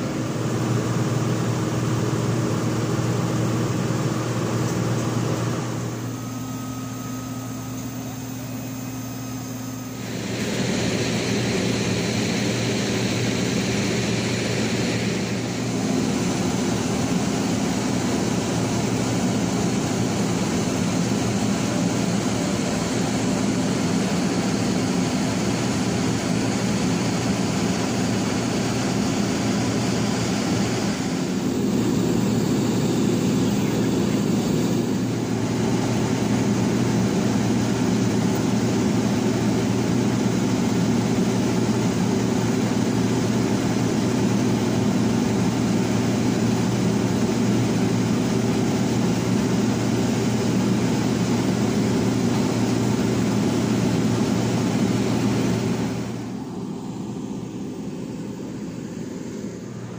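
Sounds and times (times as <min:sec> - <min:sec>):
turboprop engine droning: 0:00.0 - 0:59.9.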